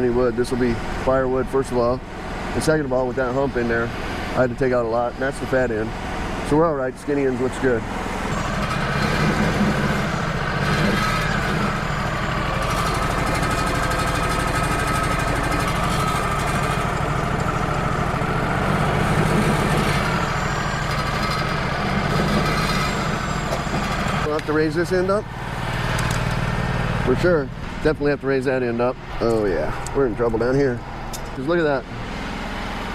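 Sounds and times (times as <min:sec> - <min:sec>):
sawmill engine running: 0:00.0 - 0:32.9.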